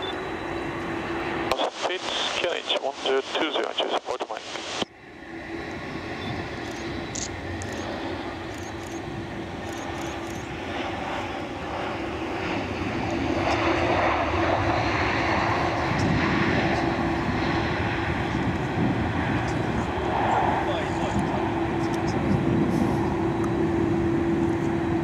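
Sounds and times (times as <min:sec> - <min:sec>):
jet engines humming: 0:00.0 - 0:25.0.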